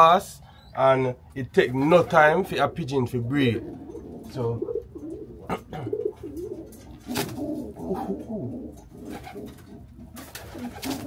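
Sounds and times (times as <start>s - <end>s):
pigeons cooing: 1.8s - 11.0s.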